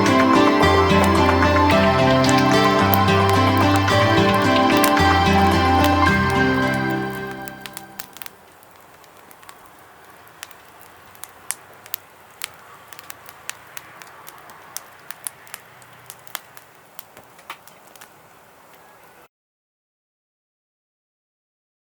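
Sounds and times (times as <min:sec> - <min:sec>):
fire hissing: 0:00.0 - 0:19.3
wood fire crackling and popping: 0:00.0 - 0:19.3.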